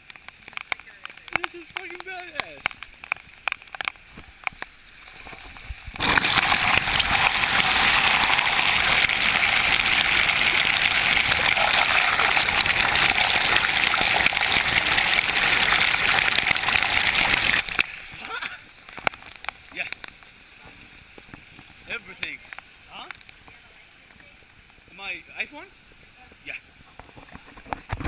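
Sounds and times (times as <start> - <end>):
loud rush of water: 0.4 - 23.2.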